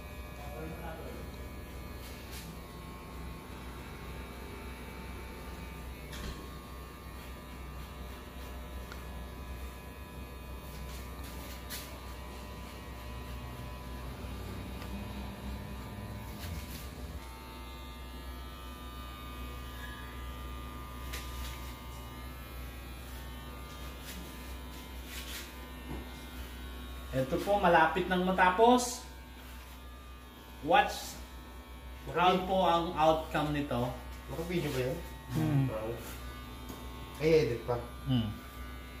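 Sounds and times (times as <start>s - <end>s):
electric hair clippers buzzing: 0.0s - 39.0s.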